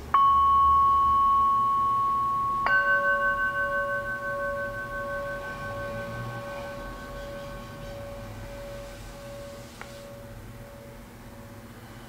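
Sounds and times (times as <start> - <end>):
singing bowl ringing: 0.0 - 11.8
higher bowl tone ringing: 0.0 - 12.0.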